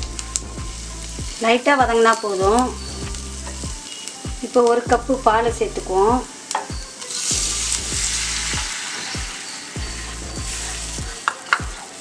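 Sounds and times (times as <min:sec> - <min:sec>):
milk sizzling in a hot pan: 0:00.0 - 0:12.0.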